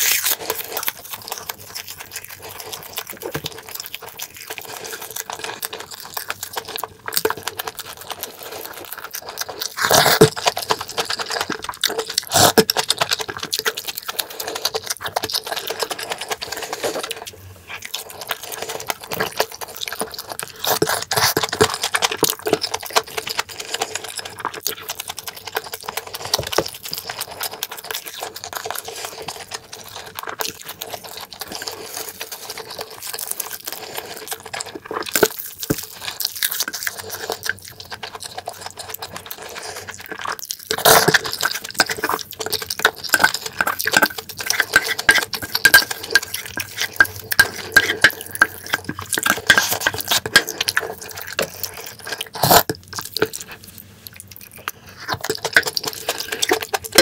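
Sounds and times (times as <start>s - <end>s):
wet chewing and smacking: 0.0s - 57.0s.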